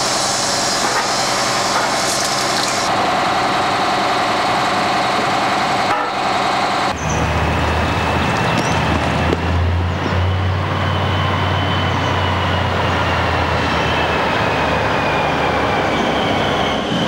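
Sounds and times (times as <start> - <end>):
high engine whine: 0.0 - 17.0
military vehicle engine drone: 0.0 - 17.0.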